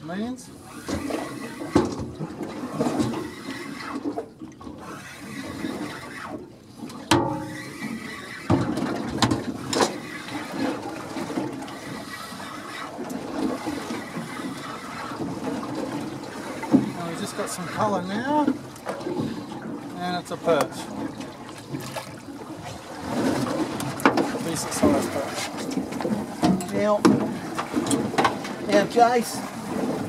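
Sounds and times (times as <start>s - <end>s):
water splashing against boat hull: 0.0s - 30.0s.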